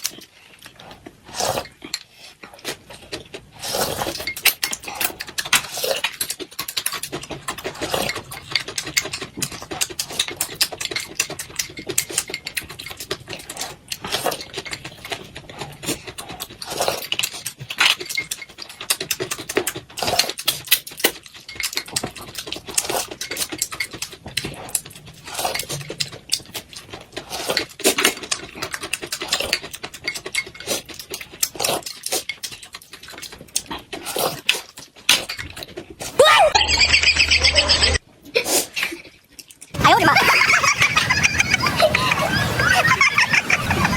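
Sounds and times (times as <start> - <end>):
person chewing: 0.0 - 36.2.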